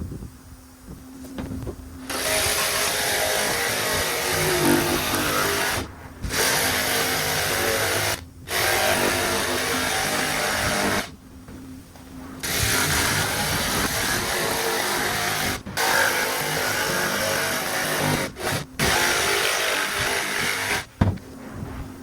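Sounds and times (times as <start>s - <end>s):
clattering power tools: 2.1s - 11.1s, 12.4s - 21.0s.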